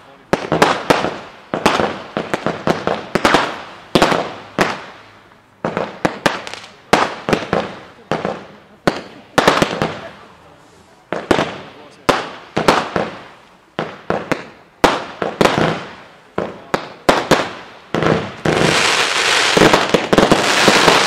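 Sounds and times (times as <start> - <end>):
aerial fireworks bursting: 0.0 - 10.3, 11.1 - 21.0.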